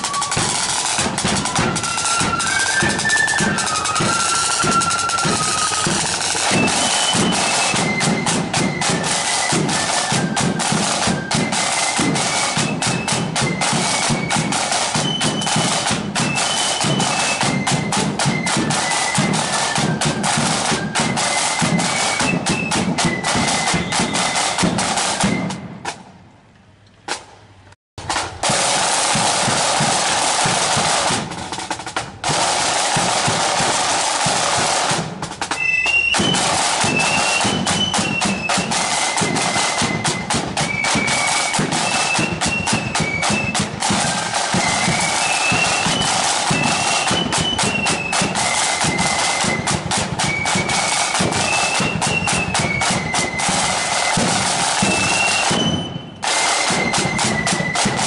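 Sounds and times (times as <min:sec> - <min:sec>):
flutes playing a tune: 0:00.0 - 0:26.0, 0:32.2 - 0:58.0
snare drums beating and rolling: 0:00.0 - 0:26.2, 0:27.1 - 0:27.4, 0:28.0 - 0:58.0.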